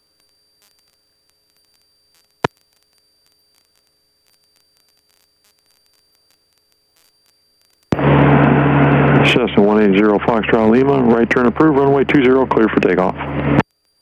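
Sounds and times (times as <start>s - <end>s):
faint steady hum: 0.0s - 14.0s
thin high whine: 0.0s - 14.0s.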